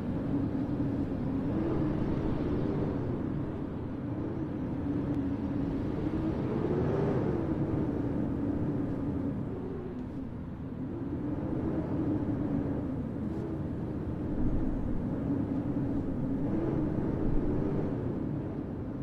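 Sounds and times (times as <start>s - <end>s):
blizzard wind rumbling: 0.0s - 19.0s.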